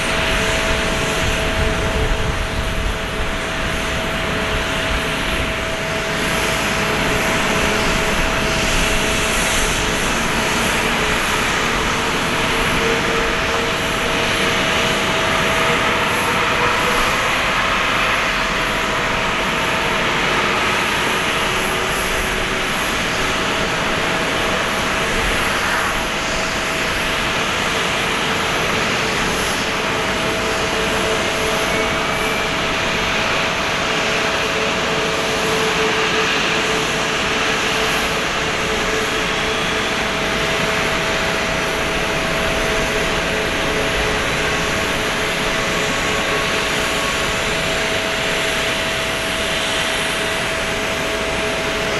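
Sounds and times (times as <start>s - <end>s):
jet engine whine: 0.0s - 51.9s
jet engines roaring: 0.0s - 51.9s.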